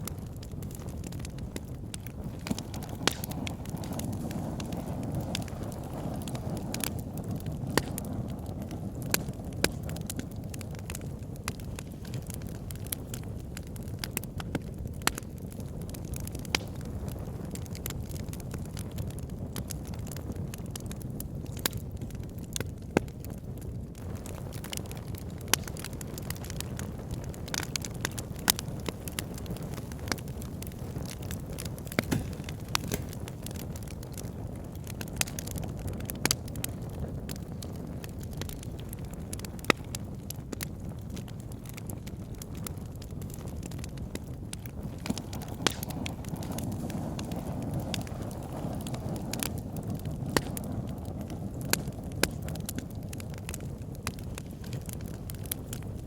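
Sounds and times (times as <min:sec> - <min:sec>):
fire pops and snaps: 0:00.0 - 0:56.0
low rumble of burning: 0:00.0 - 0:56.0.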